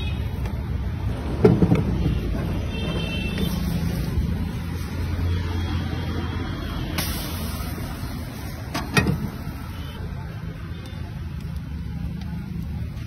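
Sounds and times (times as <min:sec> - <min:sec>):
gas burner rumbling: 0:00.1 - 0:13.0.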